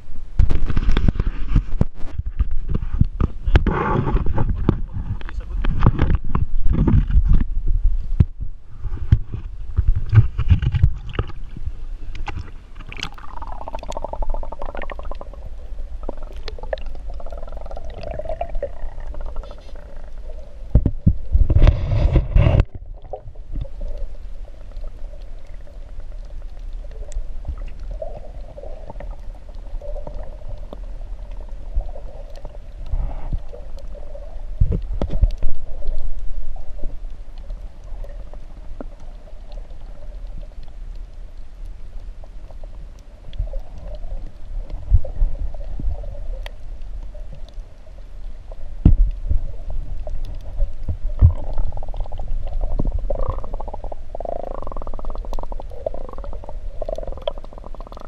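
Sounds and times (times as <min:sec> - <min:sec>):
rumbling water movement: 0:00.0 - 0:58.0
water sloshing underwater: 0:00.0 - 0:58.0.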